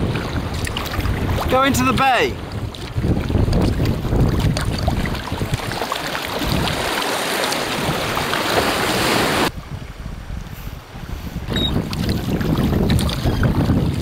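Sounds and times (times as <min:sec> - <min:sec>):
small water splashes: 0:00.0 - 0:09.5, 0:11.8 - 0:14.0
sea water washing around kayak: 0:00.0 - 0:14.0
wind buffeting microphone: 0:00.0 - 0:14.0.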